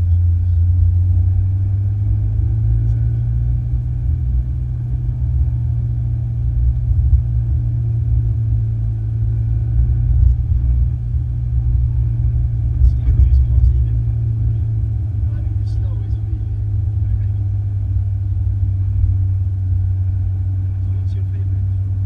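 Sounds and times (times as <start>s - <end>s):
car engine rumbling: 0.0s - 22.0s
road noise: 0.0s - 22.0s.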